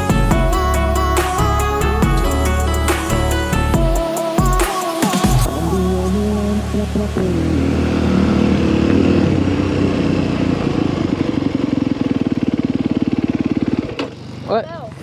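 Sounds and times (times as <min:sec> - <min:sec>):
dirt bike engine running: 0:00.0 - 0:04.6, 0:05.2 - 0:15.0.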